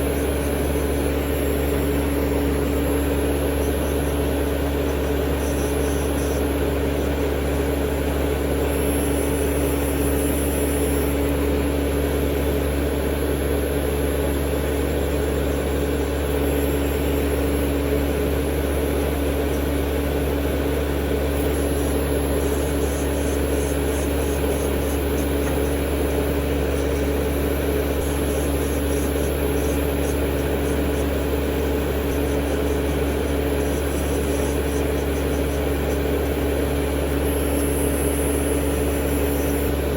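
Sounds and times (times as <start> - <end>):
electric nail drill humming: 0.0 - 39.9.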